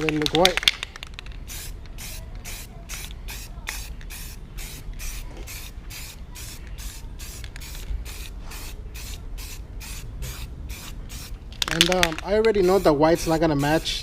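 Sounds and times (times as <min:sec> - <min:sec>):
aerosol can spraying in bursts: 0:00.6 - 0:14.0.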